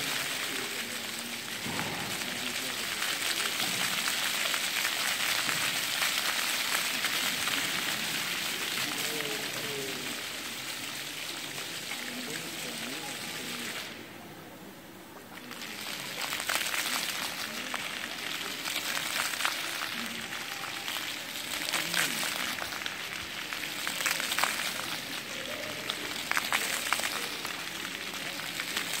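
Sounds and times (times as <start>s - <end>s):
fountain jets splashing on paving: 0.0s - 14.6s, 15.2s - 29.0s.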